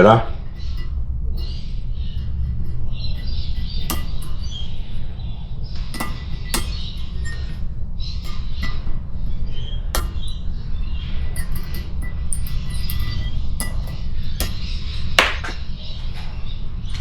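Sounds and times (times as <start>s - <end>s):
light metallic clinks and taps: 0.0s - 17.0s
steady low rumble: 0.0s - 17.0s.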